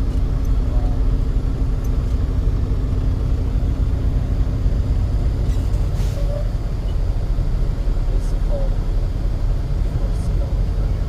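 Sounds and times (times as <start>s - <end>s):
vehicle engine and tyres rumble: 0.0s - 11.0s.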